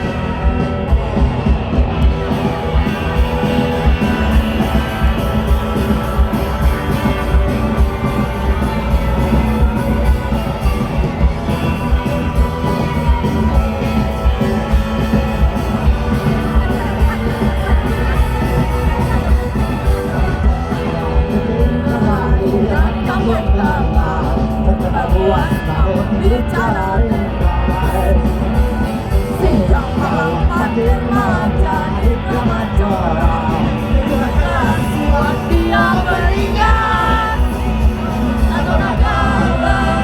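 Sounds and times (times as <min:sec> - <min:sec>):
bass guitar: 0:00.0 - 0:40.0
drums steady beat: 0:00.0 - 0:40.0
electric guitar: 0:00.0 - 0:40.0.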